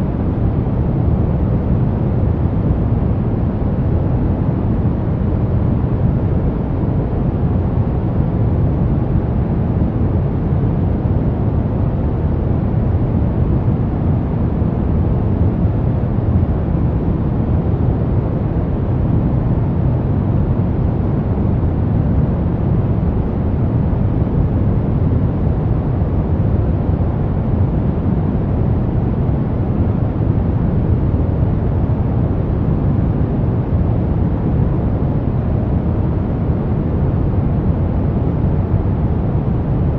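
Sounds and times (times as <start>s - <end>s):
steady brown noise rumble: 0.0s - 39.9s.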